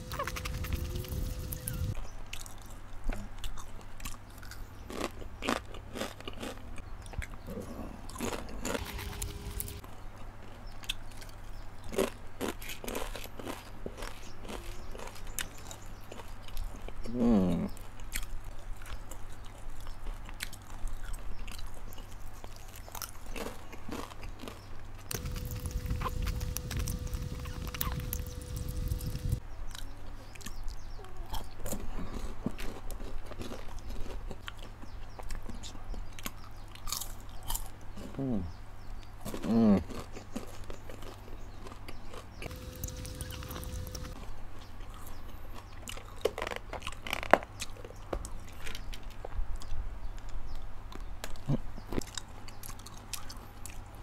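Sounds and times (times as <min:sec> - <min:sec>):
chewing crispy chips: 0:00.0 - 0:38.4, 0:39.0 - 0:54.0.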